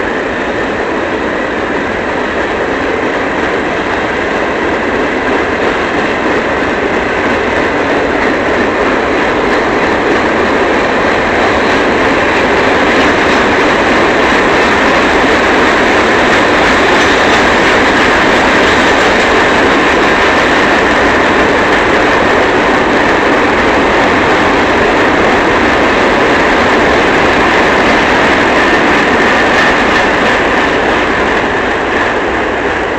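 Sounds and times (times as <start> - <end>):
clickety-clack over rail joints: 0.0 - 32.9
steel wheels on rail: 0.0 - 32.9.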